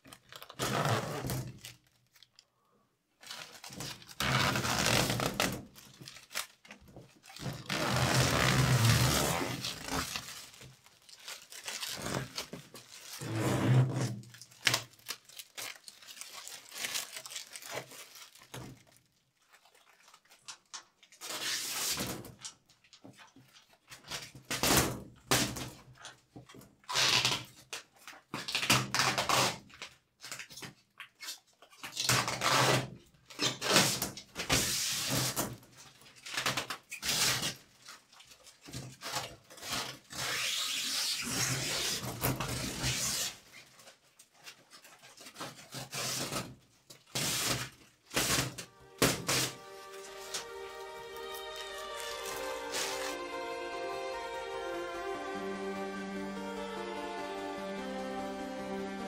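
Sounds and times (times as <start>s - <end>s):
plastic film rustling and tearing: 0.0s - 2.4s, 3.2s - 53.4s.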